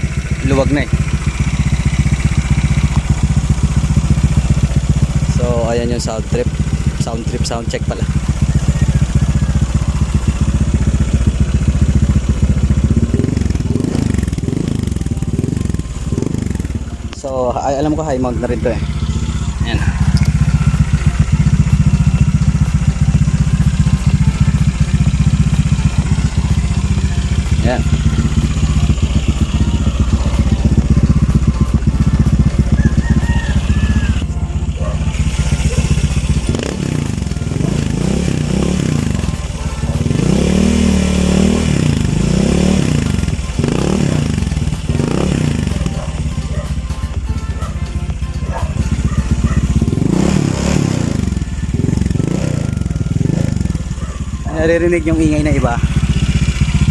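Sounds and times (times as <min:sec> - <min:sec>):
scooter engine idling: 0:00.0 - 0:56.9.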